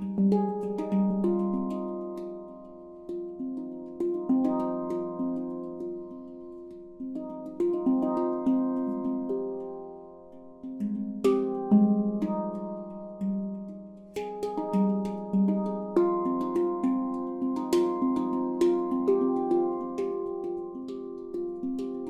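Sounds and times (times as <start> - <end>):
handpan notes ringing: 0.0 - 22.0.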